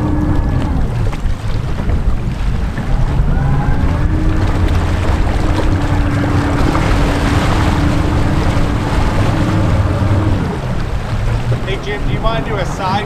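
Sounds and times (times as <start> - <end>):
boat engines droning: 0.0 - 13.0
water wash: 0.0 - 13.0
wind on microphone: 0.0 - 13.0.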